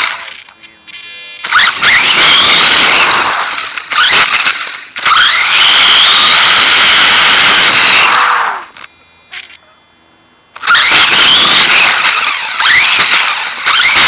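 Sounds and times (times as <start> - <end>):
electric motor whining: 1.0 - 8.8, 10.6 - 14.0.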